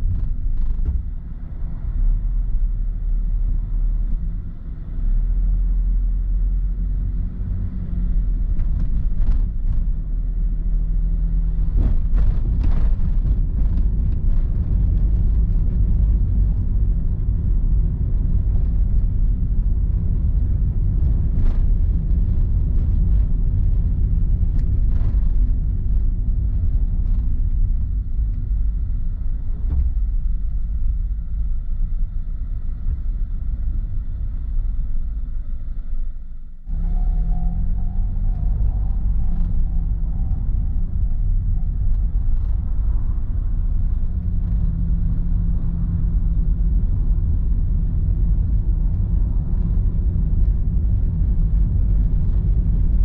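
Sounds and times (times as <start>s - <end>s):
car interior road and engine rumble: 0.0s - 53.0s.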